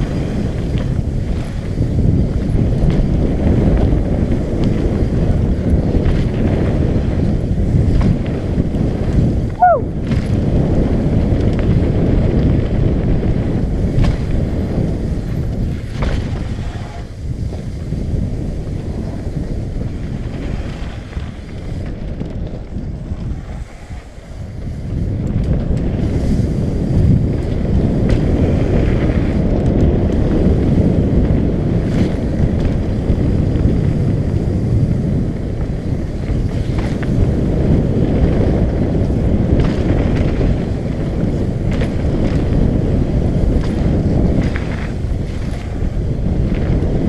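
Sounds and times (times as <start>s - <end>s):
bike clicks and rattles: 0.0s - 47.0s
wind buffeting microphone: 0.0s - 47.0s.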